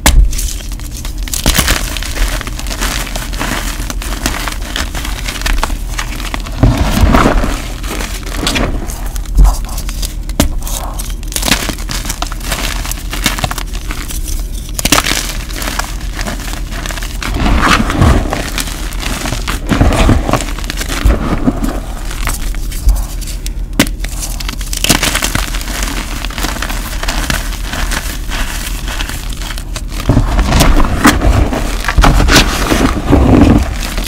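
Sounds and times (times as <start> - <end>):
chalk blocks crunching: 0.1 - 34.0.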